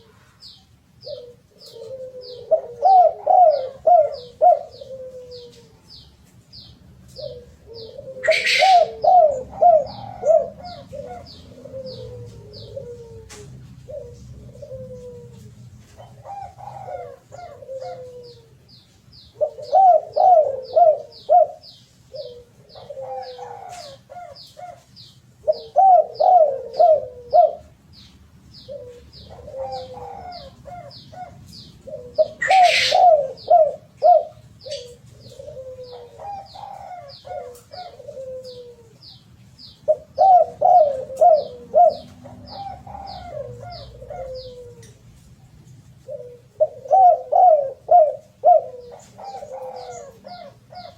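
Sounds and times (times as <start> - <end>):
dove cooing: 0.0 - 6.0, 7.0 - 27.8, 28.6 - 50.9.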